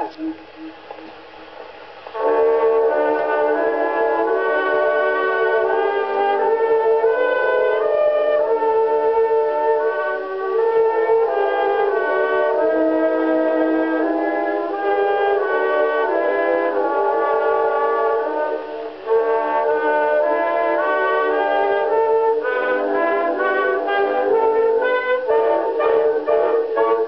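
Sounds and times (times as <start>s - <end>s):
faint hum: 0.0s - 27.0s
military band playing a waltz: 0.0s - 27.0s.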